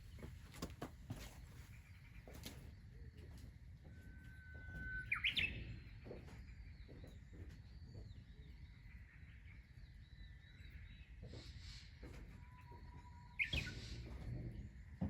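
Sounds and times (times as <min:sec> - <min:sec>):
bird singing: 0:01.2 - 0:15.0.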